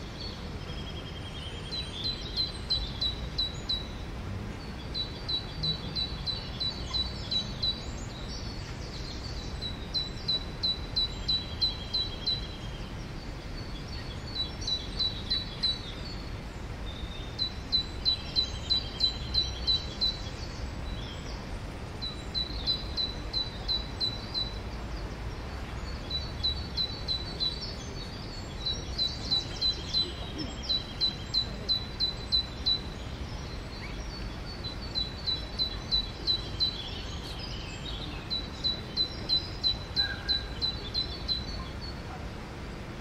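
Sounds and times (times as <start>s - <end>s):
songbirds singing high notes: 0.0s - 43.0s.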